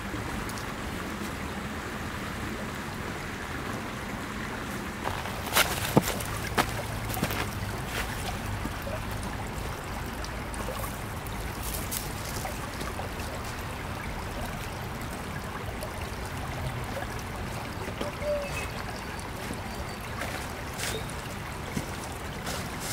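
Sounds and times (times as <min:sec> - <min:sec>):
creek trickling over rocks: 0:00.0 - 0:22.9.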